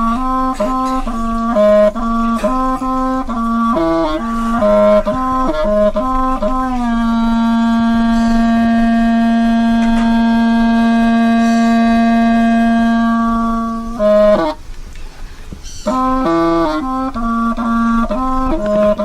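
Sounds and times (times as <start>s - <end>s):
wind instrument music: 0.0s - 19.0s.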